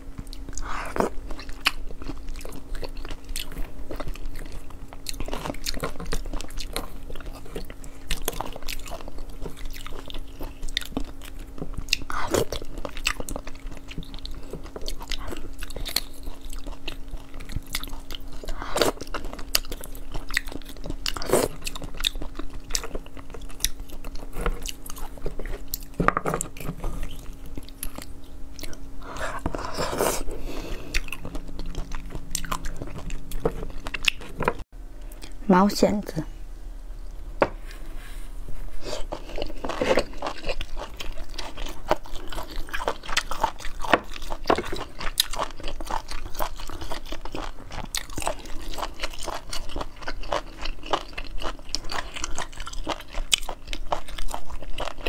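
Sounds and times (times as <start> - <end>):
chewing soft food: 0.0 - 35.4, 38.8 - 55.0
steady low hum: 0.0 - 55.0.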